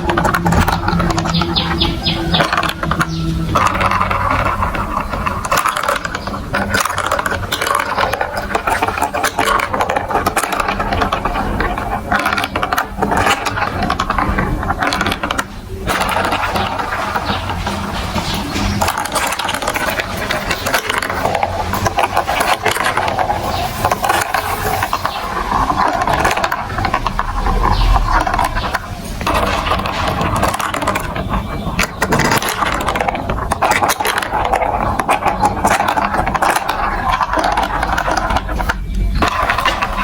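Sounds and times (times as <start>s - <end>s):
marbles rattling along plastic run: 0.0s - 40.0s.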